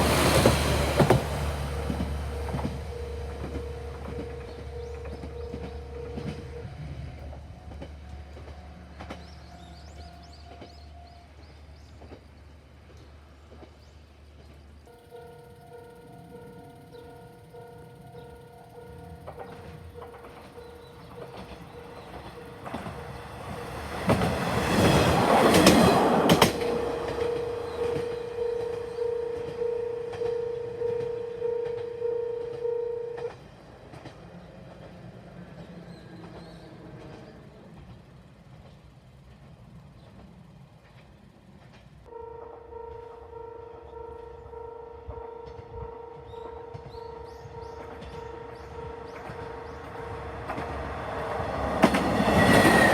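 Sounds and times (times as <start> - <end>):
rail-joint clicks: 0.0 - 42.2, 45.4 - 52.9
diesel railcar passing: 0.0 - 52.9.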